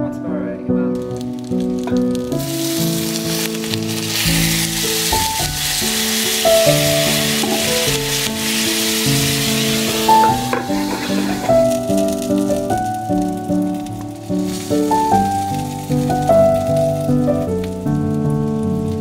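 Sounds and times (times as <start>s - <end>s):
background music: 0.0s - 19.0s
dumplings sizzling in oil: 1.0s - 19.0s.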